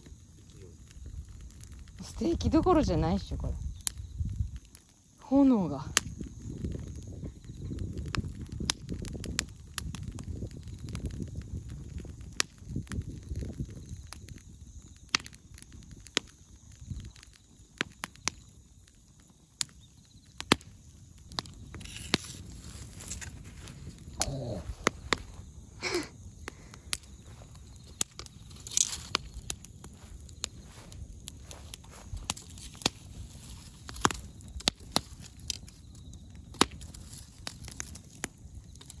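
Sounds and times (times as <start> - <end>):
bonfire crackling and snapping: 0.0 - 39.0
low fire rumble: 0.0 - 39.0.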